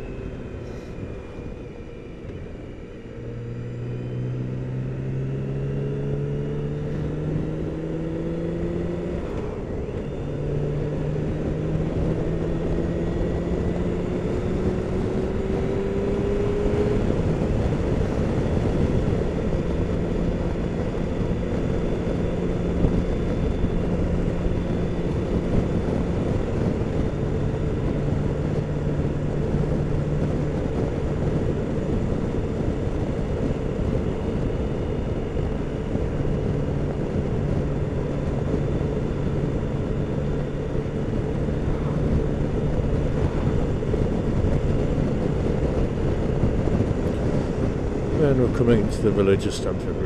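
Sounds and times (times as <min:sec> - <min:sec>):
motorcycle engine running: 0:00.0 - 0:50.0
wind and road noise: 0:00.0 - 0:50.0.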